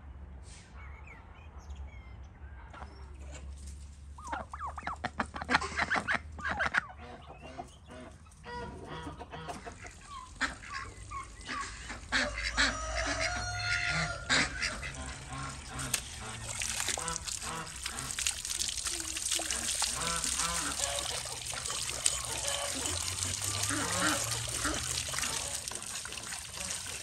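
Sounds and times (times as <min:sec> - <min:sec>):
poultry clucking: 0:04.2 - 0:27.0.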